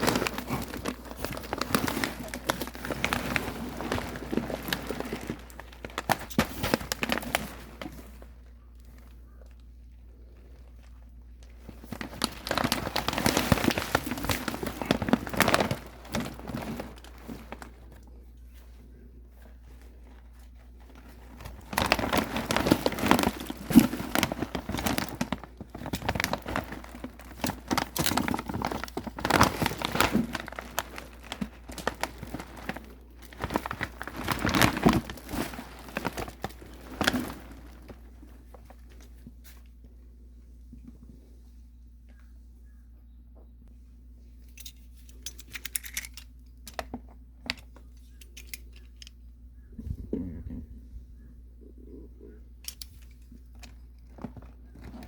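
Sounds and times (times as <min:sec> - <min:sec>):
packaging crinkling and rustling: 0:00.0 - 0:40.0, 0:44.5 - 0:49.3, 0:52.6 - 0:55.0.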